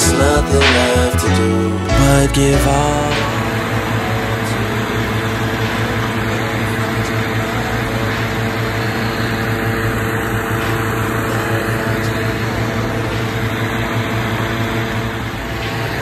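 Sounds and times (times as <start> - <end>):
low engine-like hum: 0.0 - 16.0
propane burner blast: 0.0 - 16.0.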